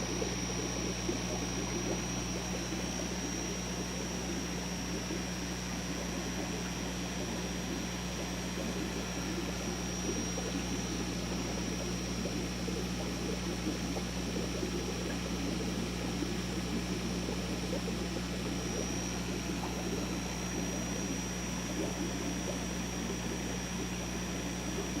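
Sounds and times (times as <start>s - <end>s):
burbling water: 0.0s - 25.0s
motor hum with high whine: 0.0s - 25.0s.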